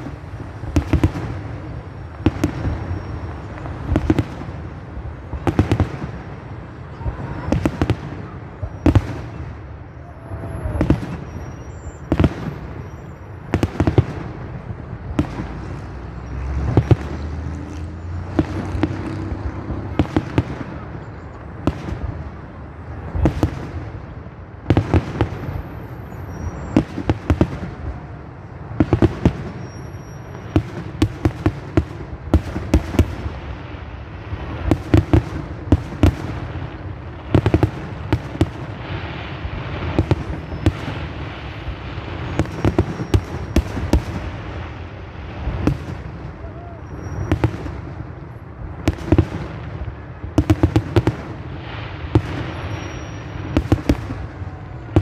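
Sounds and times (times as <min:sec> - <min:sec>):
steady background noise: 0:00.0 - 0:55.0.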